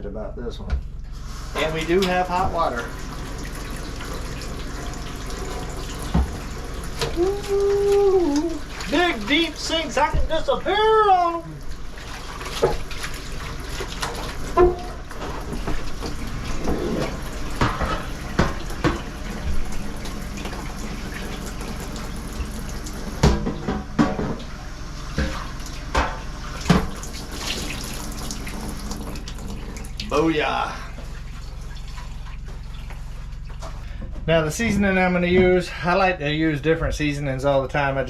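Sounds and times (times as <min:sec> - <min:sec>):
faucet water running into sink: 0:01.2 - 0:33.1.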